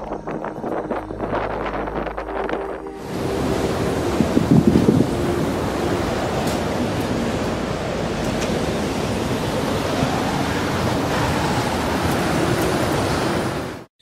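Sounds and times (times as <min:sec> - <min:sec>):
wind: 0:00.0 - 0:14.0
surf: 0:01.0 - 0:13.9.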